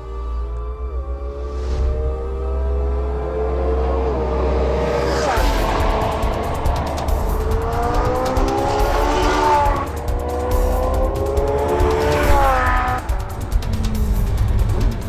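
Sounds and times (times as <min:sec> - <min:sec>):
background music: 0:00.0 - 0:15.0
car engine revving: 0:00.0 - 0:15.0.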